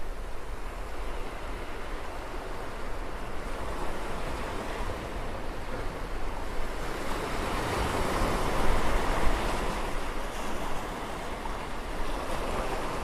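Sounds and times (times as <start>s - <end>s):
ocean waves washing on shore: 0.0s - 13.0s.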